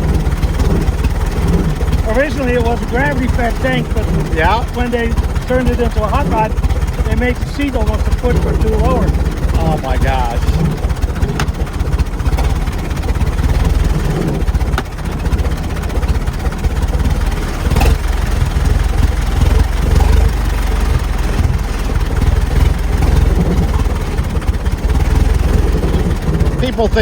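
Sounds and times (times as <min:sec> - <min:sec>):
engine low rumble: 0:00.0 - 0:27.0
sharp engine knocks: 0:00.0 - 0:27.0.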